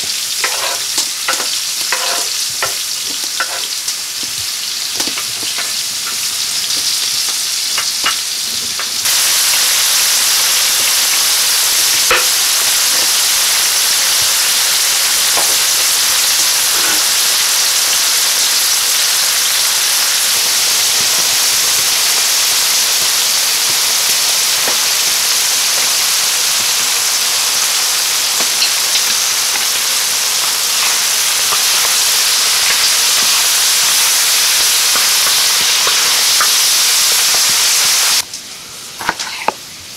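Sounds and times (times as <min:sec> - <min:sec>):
meat and onions sizzling in fat: 0:00.0 - 0:39.9.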